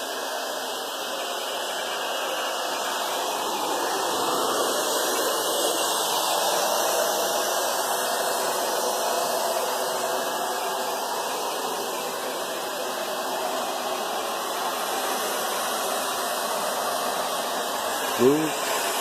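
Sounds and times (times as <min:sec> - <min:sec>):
hot-air blower hissing: 0:00.0 - 0:19.0.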